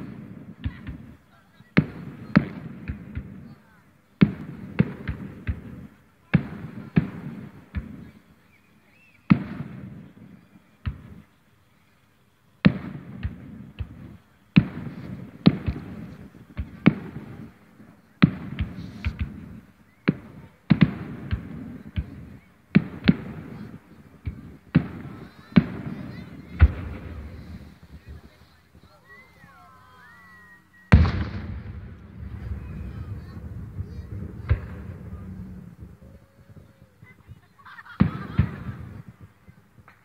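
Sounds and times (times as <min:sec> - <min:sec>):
fireworks booming with echo: 0:00.0 - 0:11.5, 0:12.6 - 0:40.0.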